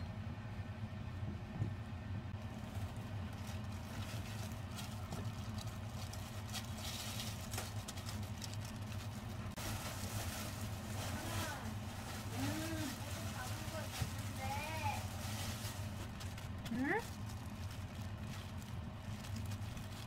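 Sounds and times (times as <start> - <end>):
steady low hum: 0.0 - 20.0
plastic gloves crinkling: 2.4 - 20.0.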